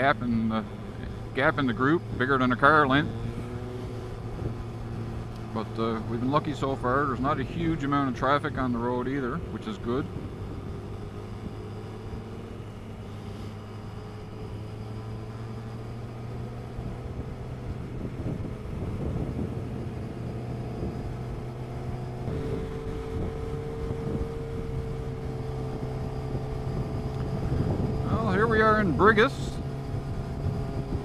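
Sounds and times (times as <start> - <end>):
higher steady tone: 0.0 - 31.0
motorcycle engine cruising: 0.0 - 31.0.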